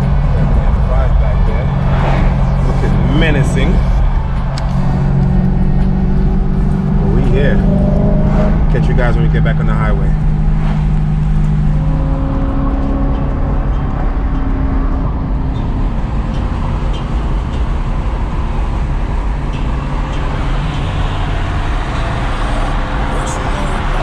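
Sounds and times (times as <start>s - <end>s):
car engine running: 0.0s - 24.0s
road and tyre noise: 0.0s - 24.0s.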